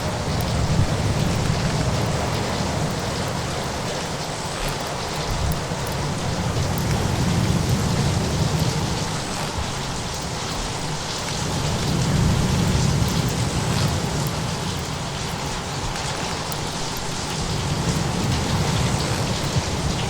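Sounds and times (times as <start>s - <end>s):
fireplace crackles: 0.0s - 20.0s
heavy rain hiss: 0.0s - 20.0s.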